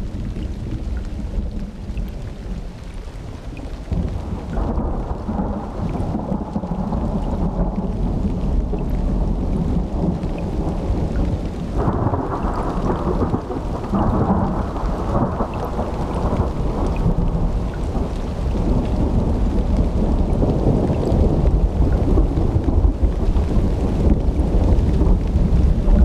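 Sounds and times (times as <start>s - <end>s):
low rumble of thunder: 0.0s - 26.0s
steady rain: 0.0s - 26.0s.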